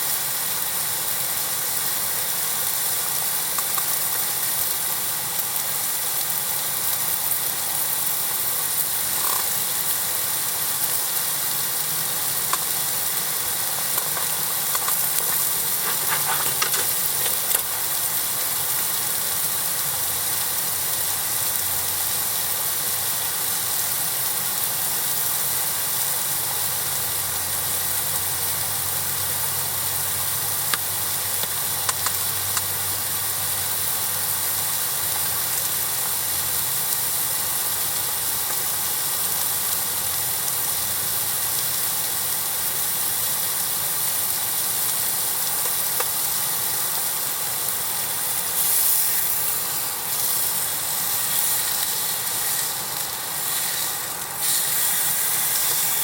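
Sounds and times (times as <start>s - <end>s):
campfire hissing and crackling: 0.0s - 56.0s.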